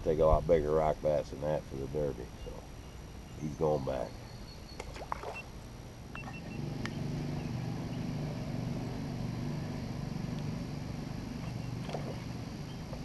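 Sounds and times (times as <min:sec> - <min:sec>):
boat motor humming: 0:01.9 - 0:13.0.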